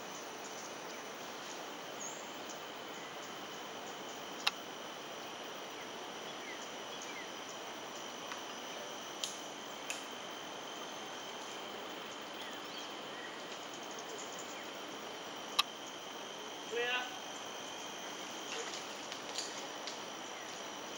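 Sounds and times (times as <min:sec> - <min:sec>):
insects trilling: 0:00.0 - 0:20.9
noise haze: 0:00.0 - 0:20.9.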